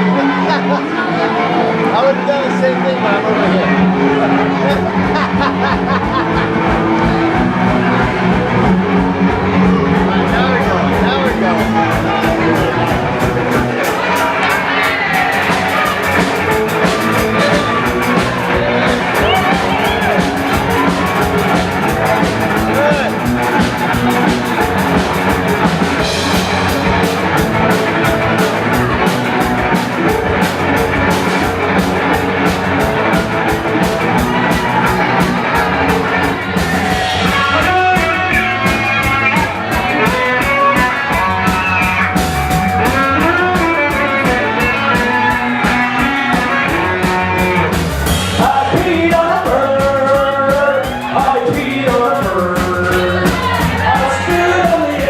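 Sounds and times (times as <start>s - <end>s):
live rock band playing: 0.0s - 55.0s
melodic lead line: 0.0s - 55.0s
drums fast beat: 1.8s - 55.0s.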